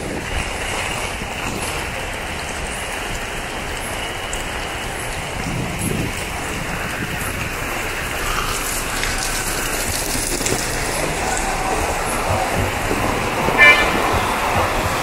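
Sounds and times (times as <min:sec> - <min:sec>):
heavy rain on paving: 0:00.0 - 0:15.0.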